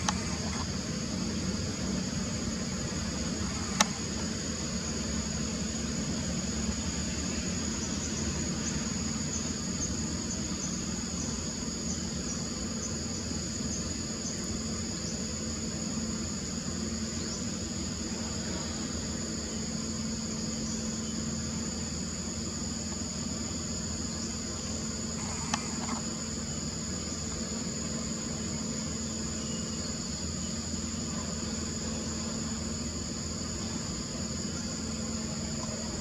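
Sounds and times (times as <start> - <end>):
insects droning: 0.0 - 36.0
low hum and hiss: 0.0 - 36.0.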